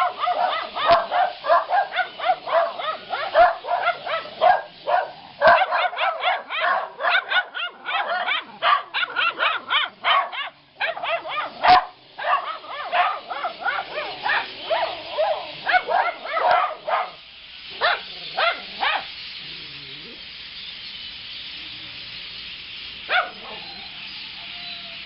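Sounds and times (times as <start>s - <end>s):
dogs barking: 0.0s - 20.2s, 23.0s - 24.1s
flock of birds chattering: 0.0s - 25.0s.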